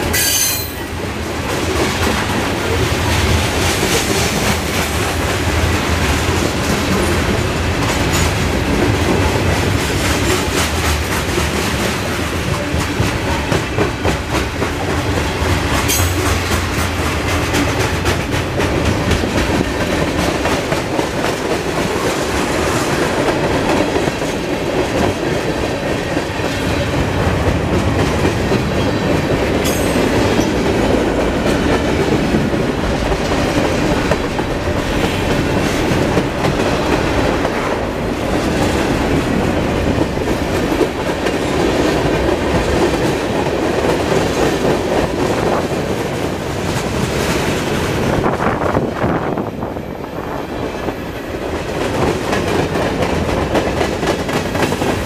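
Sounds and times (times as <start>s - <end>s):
freight train rumble: 0.0s - 55.0s.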